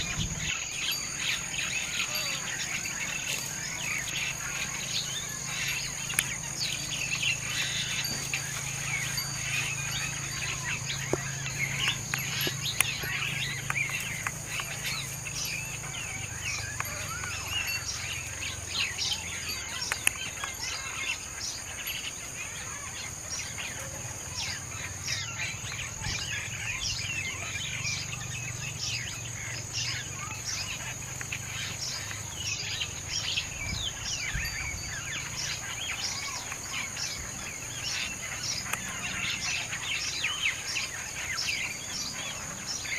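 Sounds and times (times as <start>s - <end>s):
birds chirping: 0.0s - 42.9s
high-pitched insect drone: 0.0s - 42.9s.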